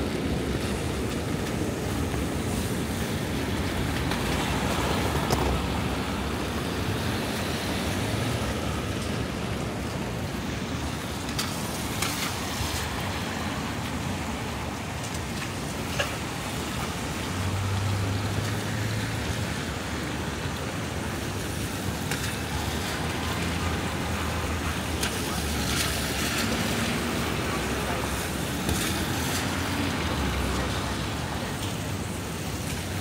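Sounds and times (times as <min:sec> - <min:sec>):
tyres hissing on wet road: 0:00.0 - 0:33.0.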